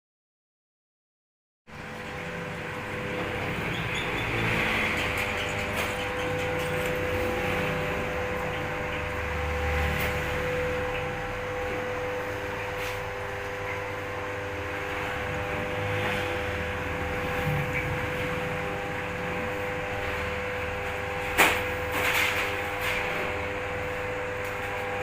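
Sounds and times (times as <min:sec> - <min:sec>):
extractor machine motor hum: 0:01.7 - 0:25.0.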